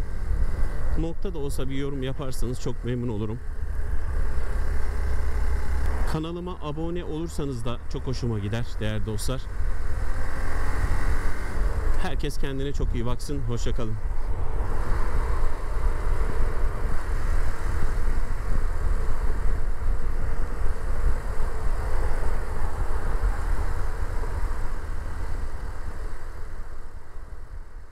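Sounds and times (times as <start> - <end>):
traffic rumble: 0.0 - 27.9.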